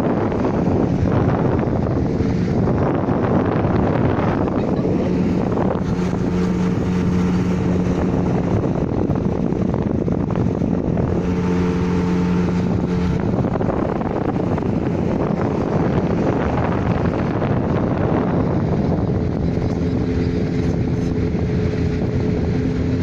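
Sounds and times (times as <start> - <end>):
motorboat engine running: 0.0 - 23.0
wind buffeting microphone: 0.0 - 23.0.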